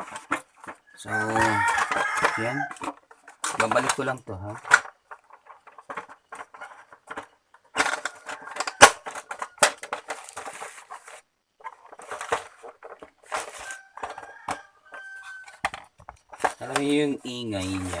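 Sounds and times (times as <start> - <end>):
plastic parts clicking and knocking: 0.0 - 18.0.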